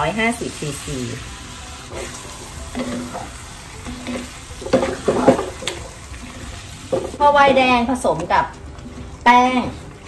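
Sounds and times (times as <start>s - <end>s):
food sizzling in a pot: 0.0s - 10.0s.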